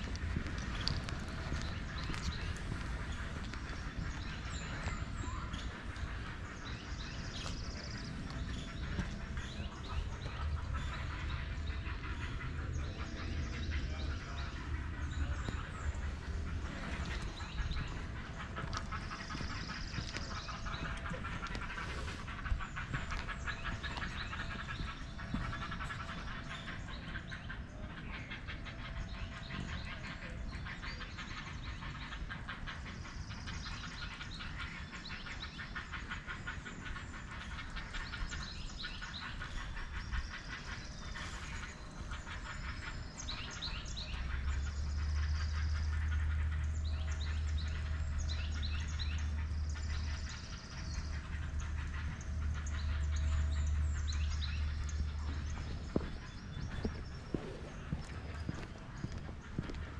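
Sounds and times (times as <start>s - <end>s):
birds chirping and trilling: 0.0s - 59.9s
steady low rumble: 0.0s - 59.9s.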